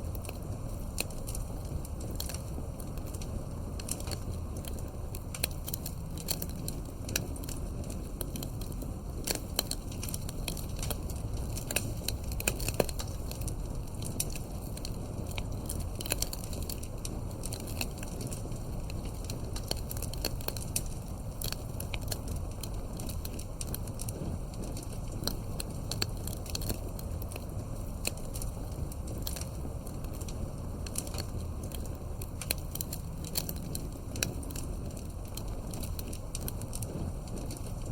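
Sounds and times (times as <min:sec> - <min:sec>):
campfire crackling: 0:00.0 - 0:37.9
low steady rumble: 0:00.0 - 0:37.9.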